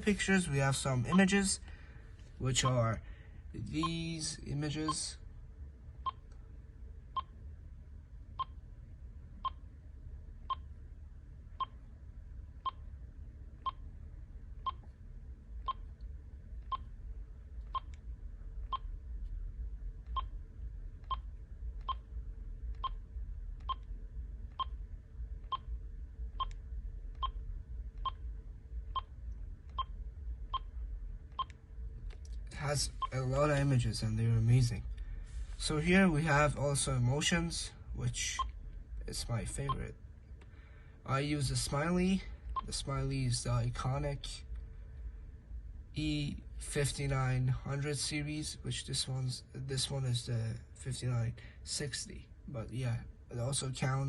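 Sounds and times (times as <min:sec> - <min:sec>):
faint low rumble: 0:00.0 - 0:54.0.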